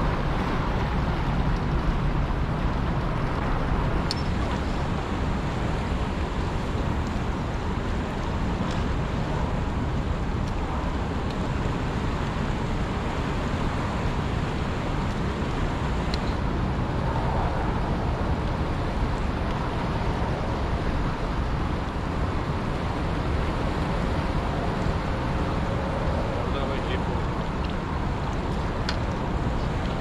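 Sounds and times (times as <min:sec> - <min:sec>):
water roaring through spillway: 0:00.0 - 0:30.0.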